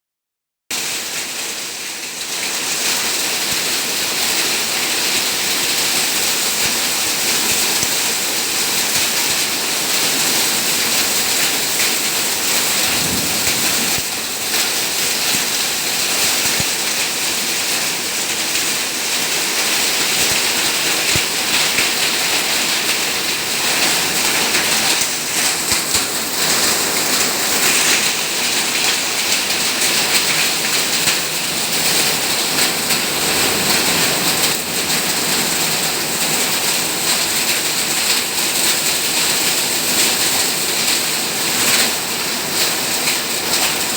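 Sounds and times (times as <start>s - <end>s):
heavy rain falling: 0.8s - 43.9s.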